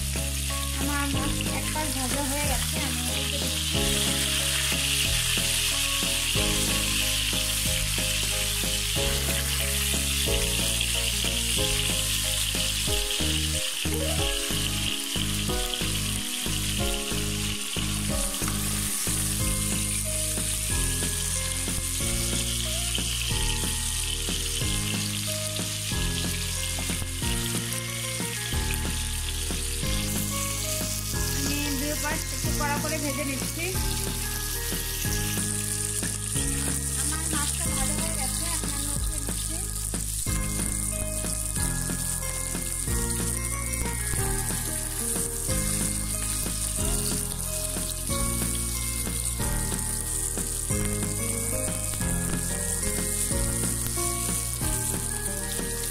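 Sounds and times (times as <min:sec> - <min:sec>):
fish sizzling in hot oil: 0:00.0 - 0:55.9
soft background tune: 0:00.0 - 0:55.9.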